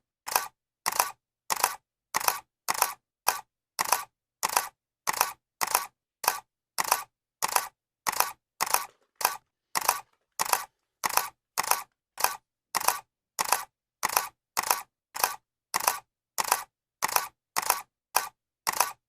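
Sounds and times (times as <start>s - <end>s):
camera shutter clicking: 0.3s - 19.0s.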